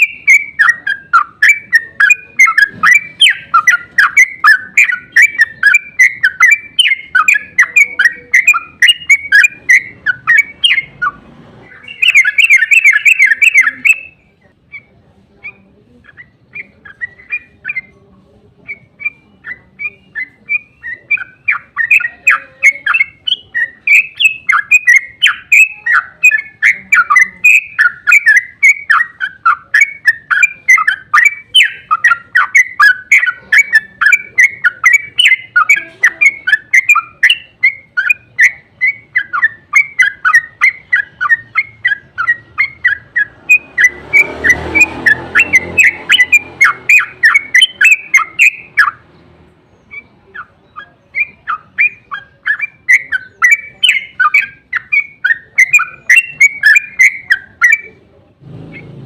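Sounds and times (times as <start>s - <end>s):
bird chirping rapidly: 0.0s - 59.0s.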